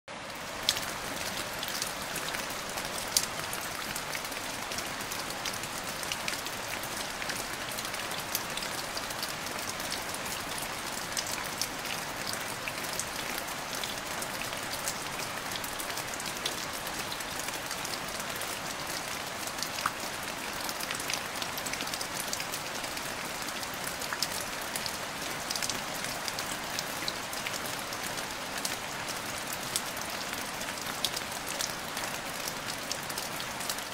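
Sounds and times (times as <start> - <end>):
rain falling on water: 0.1 - 33.9.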